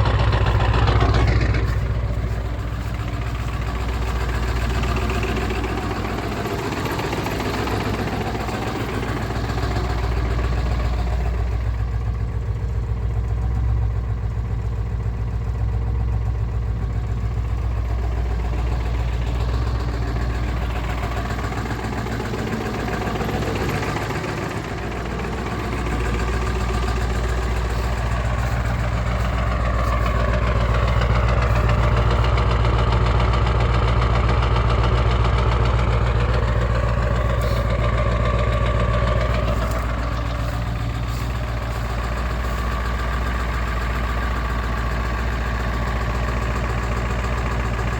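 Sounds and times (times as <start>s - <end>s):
diesel engine idling with knock: 0.0s - 47.9s.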